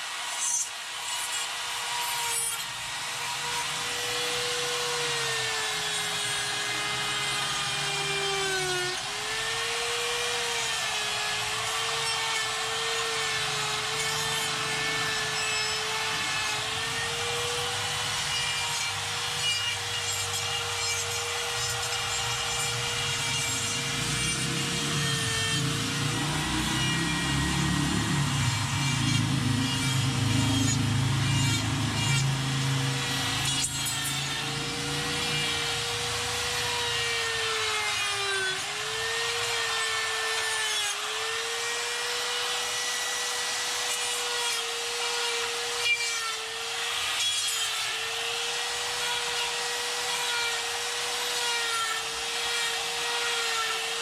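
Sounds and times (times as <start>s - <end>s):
die grinder cutting wood: 0.0s - 54.0s.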